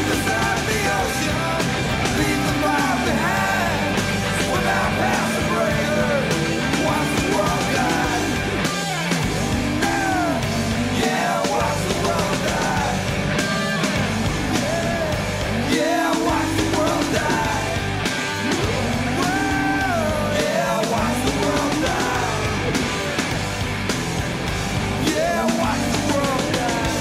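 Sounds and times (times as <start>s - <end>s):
rock song with singing: 0.0s - 27.0s.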